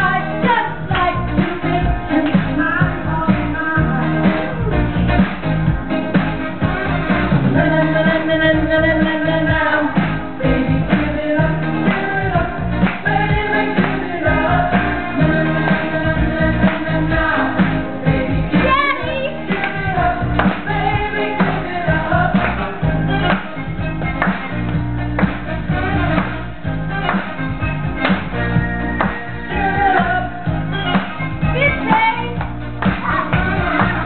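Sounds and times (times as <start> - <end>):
song with sung vocals and beat: 0.0 - 34.0.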